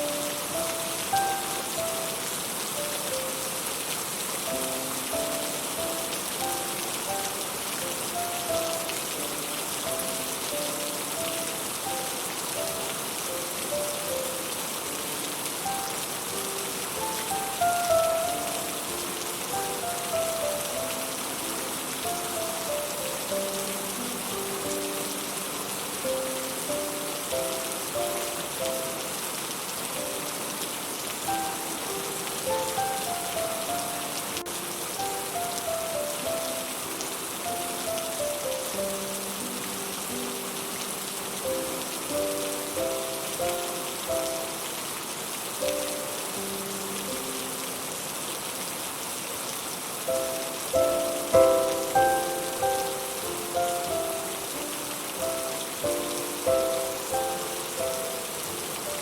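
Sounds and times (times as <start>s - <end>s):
heavy rain on a roof: 0.0s - 59.0s
slow soft melody: 0.0s - 59.0s.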